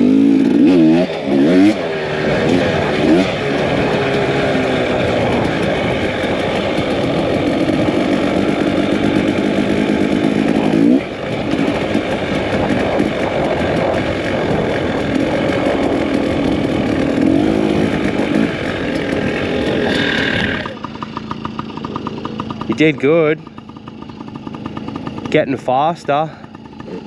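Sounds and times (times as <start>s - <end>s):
two-stroke dirt bike engine revving: 0.0s - 27.0s.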